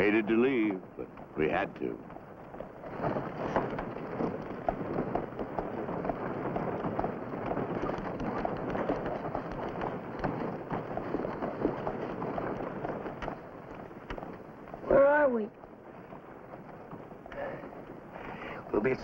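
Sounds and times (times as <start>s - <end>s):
horse hooves: 0.0s - 19.0s
rattling wagon wheels: 0.0s - 19.0s.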